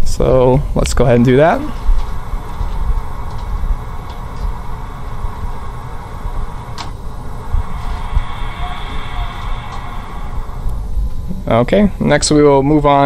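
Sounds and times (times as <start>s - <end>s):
faint high whine: 0.0s - 12.2s
machine humming: 0.4s - 11.6s.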